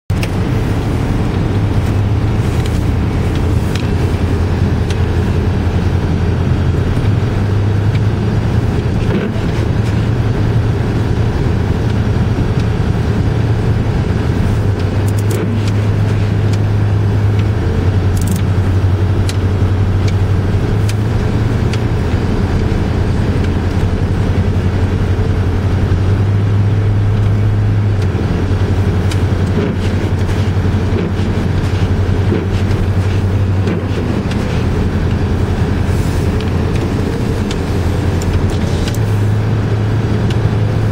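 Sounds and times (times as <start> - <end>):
car engine and tyre drone: 0.1 - 40.9.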